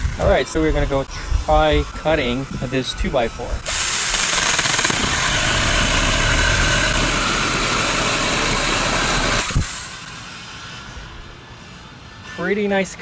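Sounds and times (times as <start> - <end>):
mini chainsaw cutting wood: 0.0 - 10.9.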